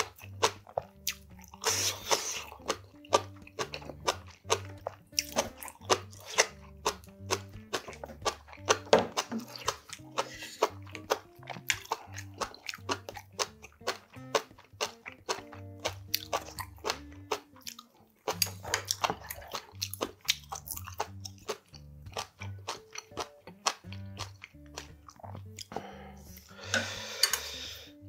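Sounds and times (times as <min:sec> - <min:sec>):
background music: 0:00.0 - 0:28.0
chewing and crunching food: 0:00.0 - 0:28.0.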